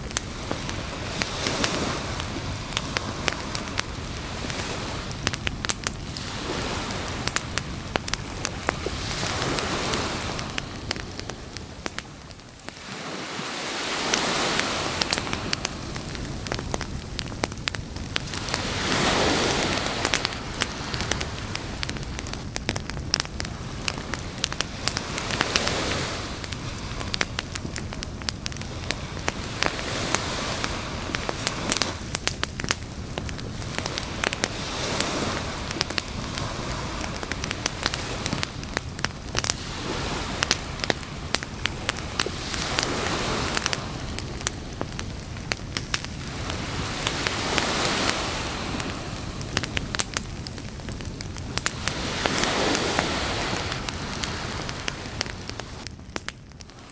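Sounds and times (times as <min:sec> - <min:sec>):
surf washing in and out: 0:00.0 - 0:55.9, 0:56.7 - 0:56.9
campfire crackling and popping: 0:00.0 - 0:56.9.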